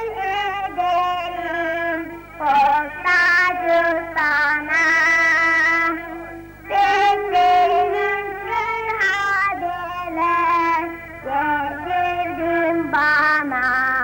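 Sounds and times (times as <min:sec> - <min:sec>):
girl singing into a microphone: 0:00.0 - 0:06.1, 0:06.7 - 0:14.0.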